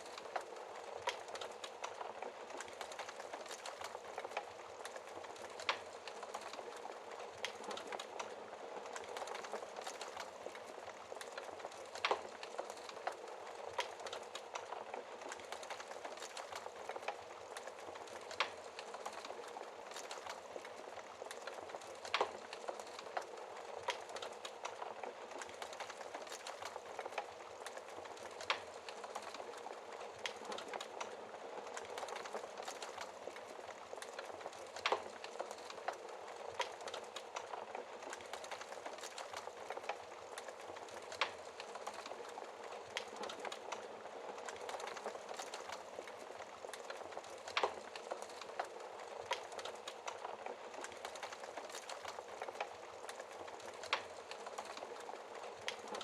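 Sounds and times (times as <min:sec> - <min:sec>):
fire crackling: 0:00.0 - 0:56.0
fire popping: 0:00.0 - 0:56.0.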